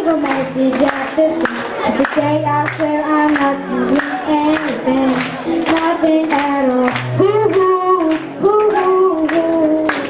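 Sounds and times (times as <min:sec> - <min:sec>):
boy singing into microphone: 0:00.0 - 0:10.0.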